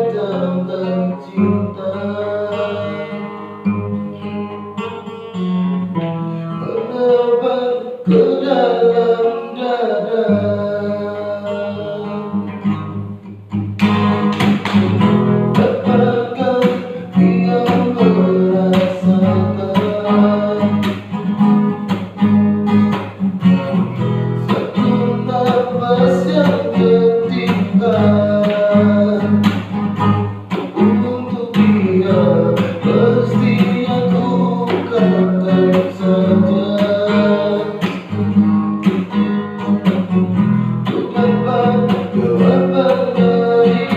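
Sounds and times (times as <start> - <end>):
person singing: 0.0 - 5.4, 6.4 - 12.6, 14.8 - 21.1, 23.5 - 29.6, 30.5 - 38.2, 39.6 - 43.9
acoustic guitar strumming: 0.0 - 43.9.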